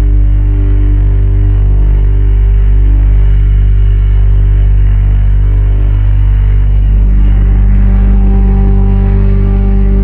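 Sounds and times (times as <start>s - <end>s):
deep low drone: 0.0s - 10.0s.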